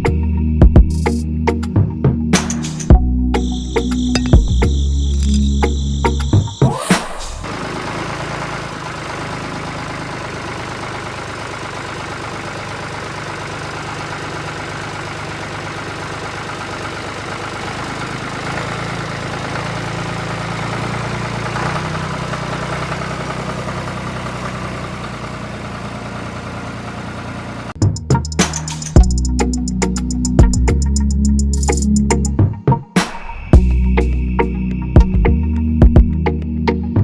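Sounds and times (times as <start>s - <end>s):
engine running with rattle: 2.4s - 32.3s.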